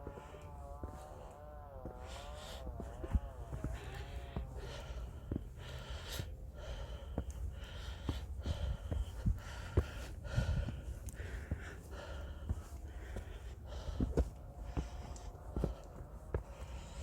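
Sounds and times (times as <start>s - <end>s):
person breathing heavily: 0.0s - 17.0s.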